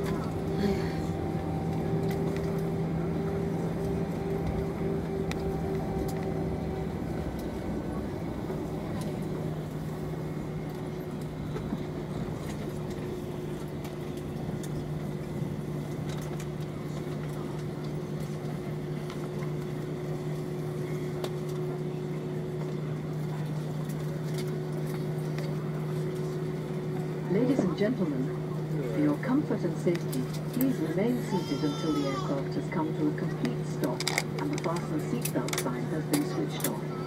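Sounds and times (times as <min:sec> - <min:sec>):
aircraft engine hum: 0:00.0 - 0:37.0.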